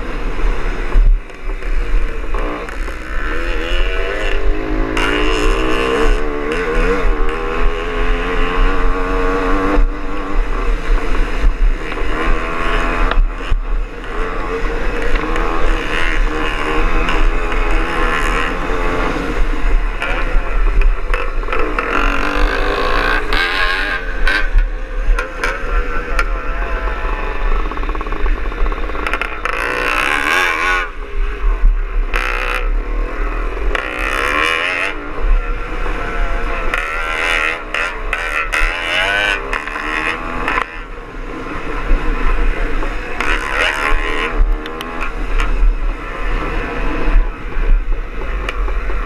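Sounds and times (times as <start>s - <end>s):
two-stroke motorbike engine revving: 0.0s - 49.0s.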